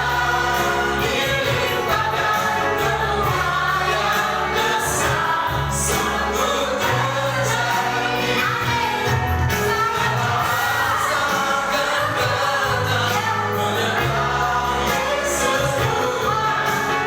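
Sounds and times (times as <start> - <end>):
band playing: 0.0 - 17.0
voices singing together: 0.0 - 17.0.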